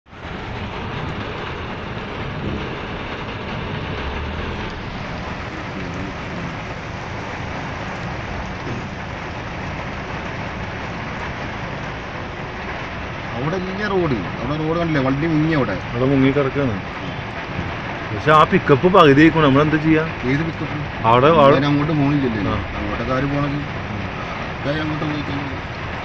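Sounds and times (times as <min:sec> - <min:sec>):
car road noise: 0:00.0 - 0:26.0
heavy rain: 0:00.0 - 0:26.0.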